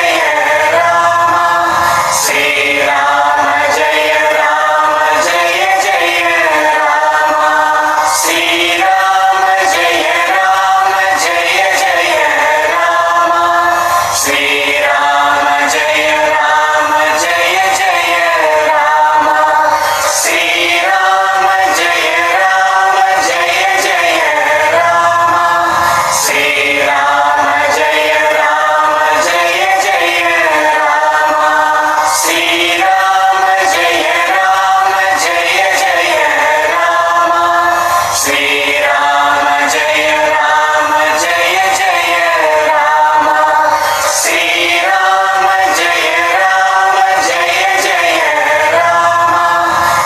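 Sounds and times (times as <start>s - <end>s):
choir singing devotional chant: 0.0s - 50.0s
musical accompaniment: 0.0s - 50.0s.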